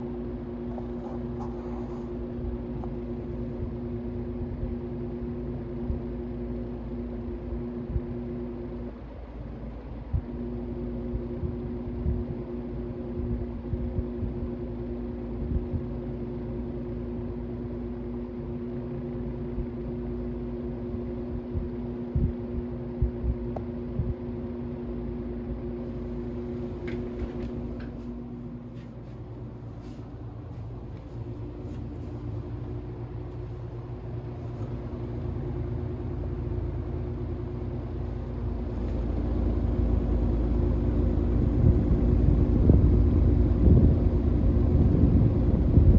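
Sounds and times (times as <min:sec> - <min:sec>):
electric fan motor hum: 0:00.0 - 0:45.9
rumble of moving air: 0:00.0 - 0:45.9.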